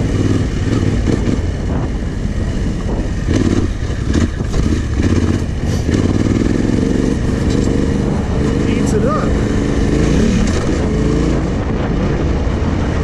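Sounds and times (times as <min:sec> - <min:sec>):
motorcycle engine revving: 0:00.0 - 0:13.0
wind buffeting microphone: 0:00.0 - 0:13.0.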